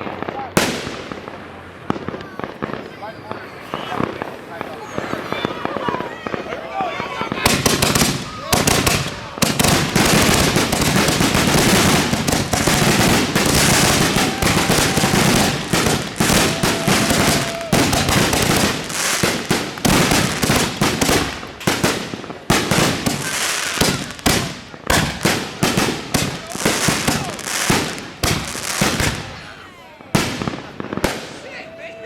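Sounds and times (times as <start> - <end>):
fireworks crackling and banging: 0.0 - 32.0.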